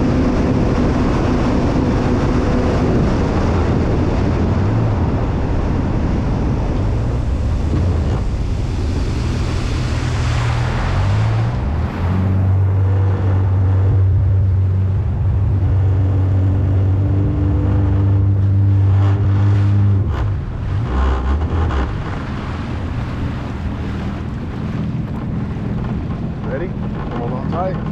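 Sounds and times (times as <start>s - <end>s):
wind rushing: 0.0s - 27.0s
jet ski engine running: 0.0s - 27.9s
water rushing: 0.0s - 27.9s.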